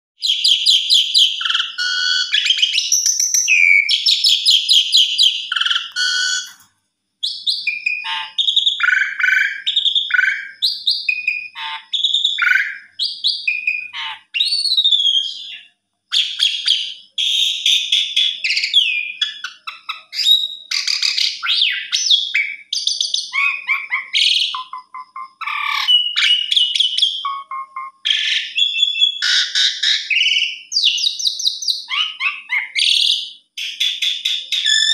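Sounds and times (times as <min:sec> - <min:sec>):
starling singing: 0:00.2 - 0:06.6, 0:07.2 - 0:34.9.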